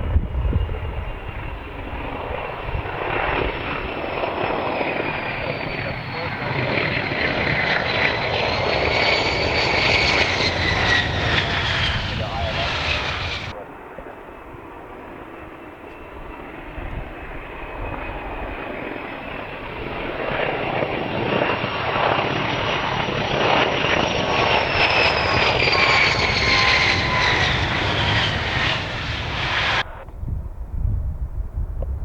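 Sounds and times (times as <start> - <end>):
high engine whine: 0.0 - 13.8, 14.8 - 30.1
jet aircraft flying past: 0.0 - 30.6.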